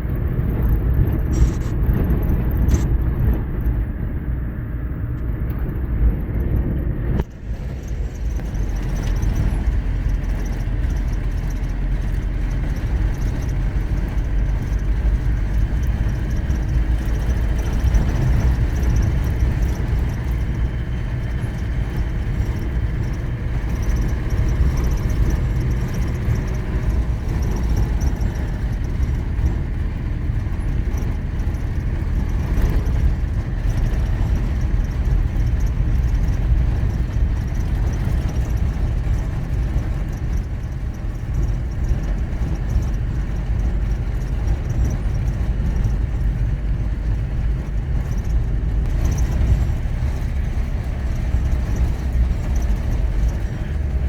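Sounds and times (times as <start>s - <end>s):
car driving on dirt road: 0.0s - 54.0s.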